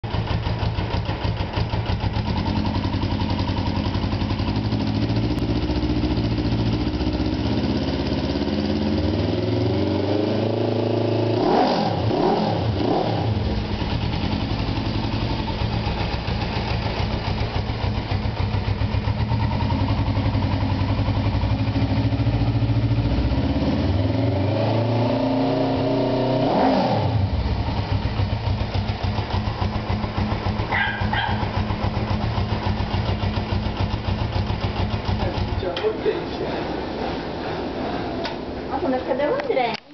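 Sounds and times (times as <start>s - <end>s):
motorcycle engine revving: 0.0s - 39.5s.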